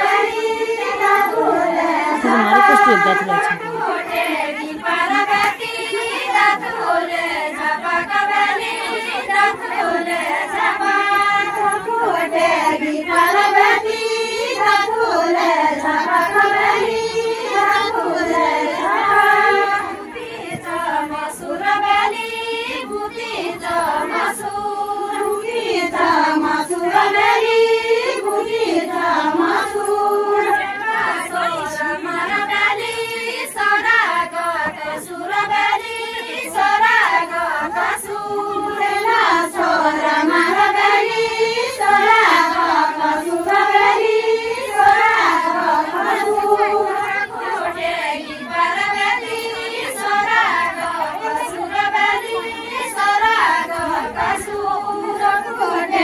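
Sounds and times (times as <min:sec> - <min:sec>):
women singing folk song in chorus: 0:00.0 - 0:56.0.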